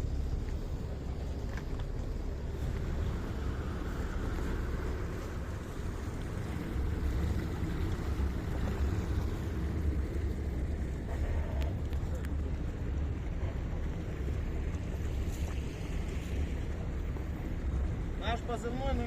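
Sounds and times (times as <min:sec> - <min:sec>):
boat motor rumbling: 0:00.0 - 0:19.0
wind buffeting microphone: 0:00.0 - 0:19.0.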